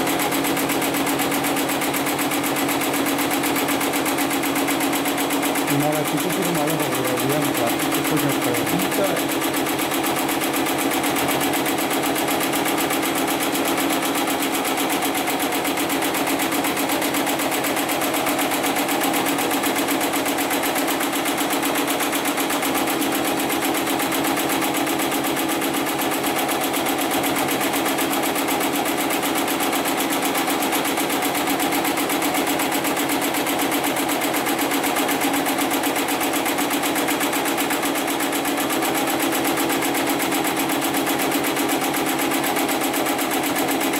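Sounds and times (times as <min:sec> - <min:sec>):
sewing machine stitching: 0:00.0 - 0:43.9.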